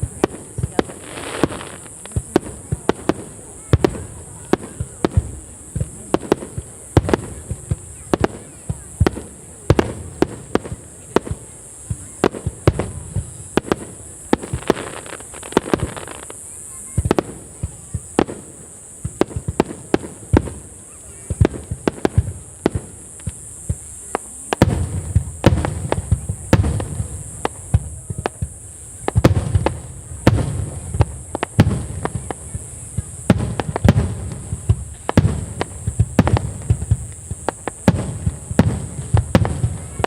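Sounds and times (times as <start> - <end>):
fireworks bangs and crackles: 0.0 - 40.0
high-pitched hiss: 0.0 - 40.0.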